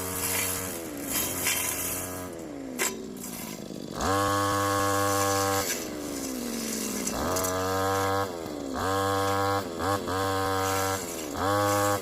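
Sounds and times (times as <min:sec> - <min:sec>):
small petrol engine revving: 0:00.0 - 0:12.0.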